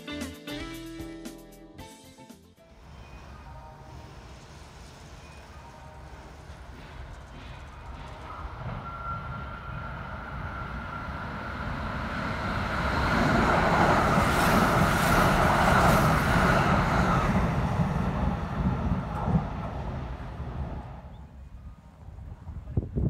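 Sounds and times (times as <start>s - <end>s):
train rumbling past: 2.7s - 23.0s.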